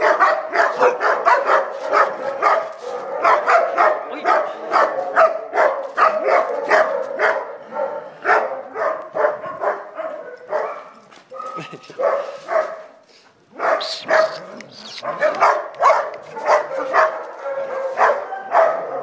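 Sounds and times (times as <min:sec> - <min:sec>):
dog barking: 0:00.0 - 0:19.0.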